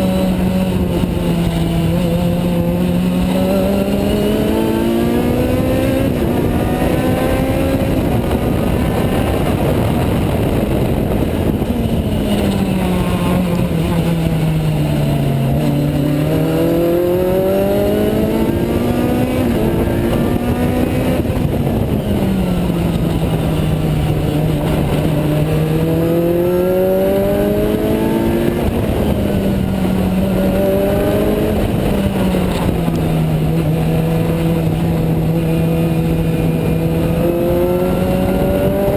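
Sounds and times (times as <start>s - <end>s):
race car engine shifting gears: 0.0s - 38.9s
wind and road noise: 0.0s - 38.9s.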